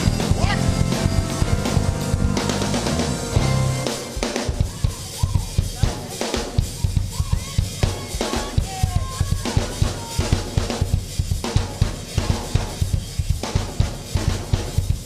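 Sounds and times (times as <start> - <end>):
drum kit playing fast beat: 0.0 - 15.0.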